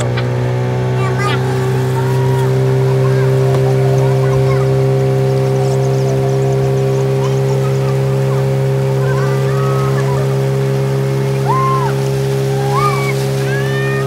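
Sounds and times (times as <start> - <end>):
boat engine droning: 0.0 - 14.0
water rushing past hull: 0.0 - 14.0.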